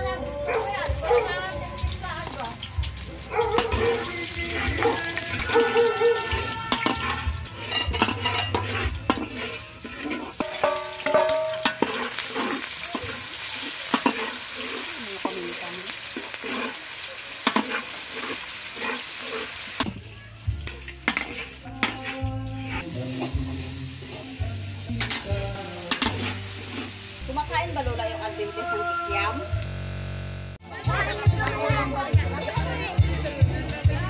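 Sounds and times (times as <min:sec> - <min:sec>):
onion sizzling in hot oil: 0:00.4 - 0:30.4
metal ladle scraping wok: 0:00.8 - 0:19.8, 0:20.7 - 0:29.6.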